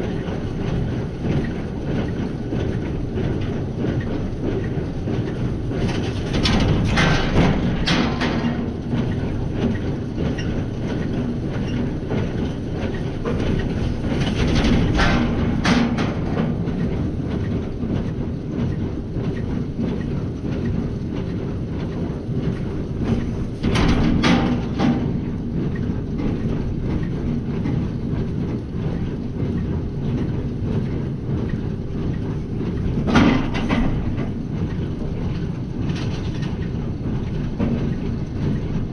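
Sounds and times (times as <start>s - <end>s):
tractor running under load: 0.0s - 38.9s.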